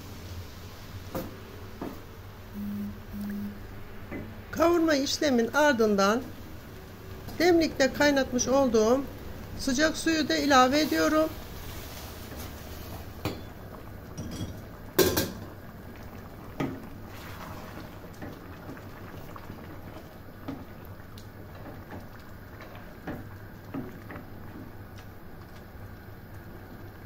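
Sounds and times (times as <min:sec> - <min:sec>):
pot simmering with hiss: 0:00.0 - 0:27.0.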